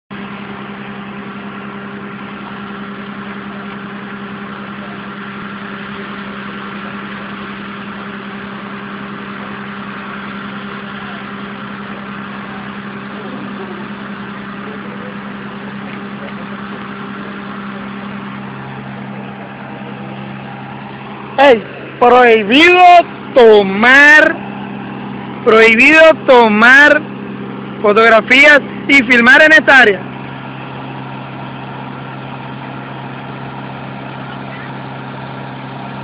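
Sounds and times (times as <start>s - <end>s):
mechanical hum: 0.1s - 36.0s.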